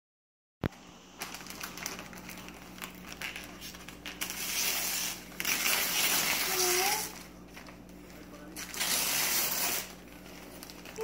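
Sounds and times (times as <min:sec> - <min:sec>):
wrapping paper crinkling and tearing: 0:00.7 - 0:11.0.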